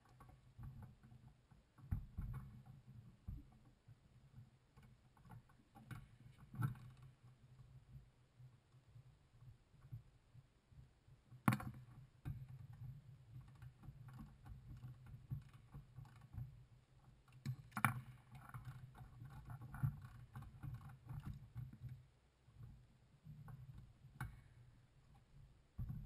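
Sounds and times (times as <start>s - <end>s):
light metallic clicks and rattles: 0.0s - 8.0s, 11.3s - 26.0s.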